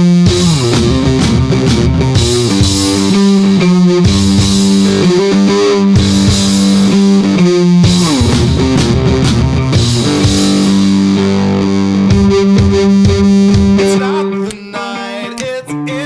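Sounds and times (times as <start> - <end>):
guitar-led rock music: 0.0 - 16.0.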